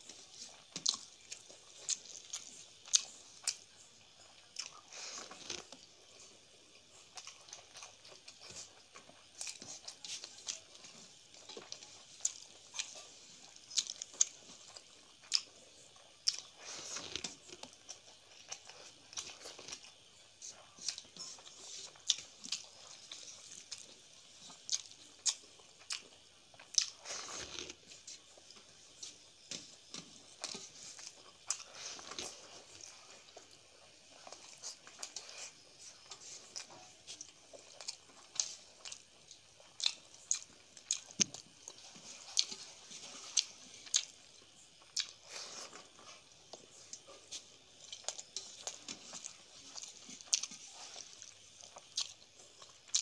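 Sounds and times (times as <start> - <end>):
person chewing: 0.0 - 53.0.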